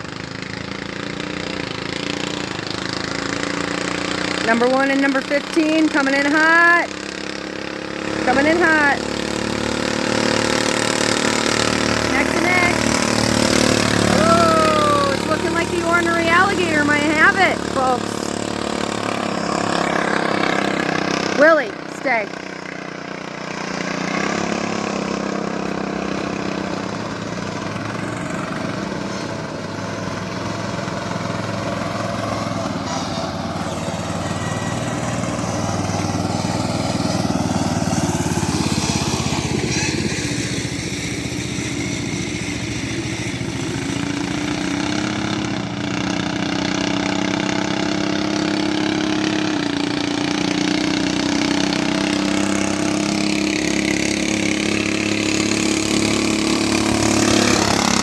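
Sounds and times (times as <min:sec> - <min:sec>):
lawn mower engines running: 0:00.0 - 0:58.0.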